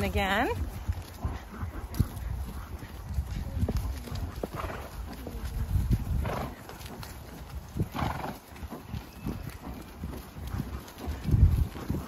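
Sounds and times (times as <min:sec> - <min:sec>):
horse hooves thudding on grass: 0:00.0 - 0:12.0.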